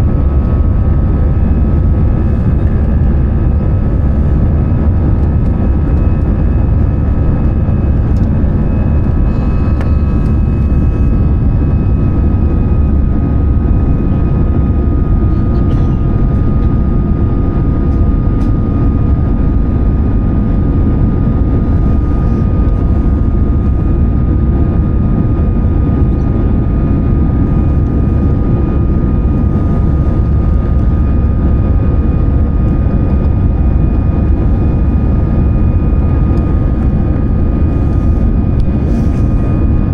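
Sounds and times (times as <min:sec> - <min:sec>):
aircraft cabin engine drone: 0:00.0 - 0:39.9
thin steady whine: 0:00.0 - 0:39.9.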